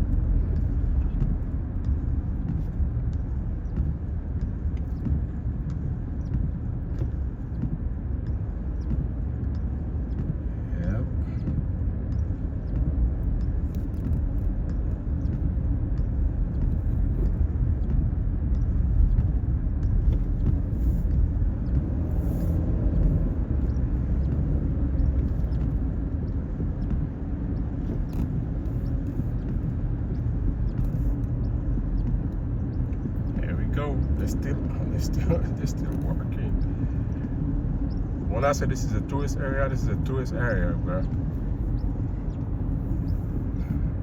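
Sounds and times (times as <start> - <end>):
car engine rumble: 0.0 - 44.0
tyre road noise: 0.0 - 44.0.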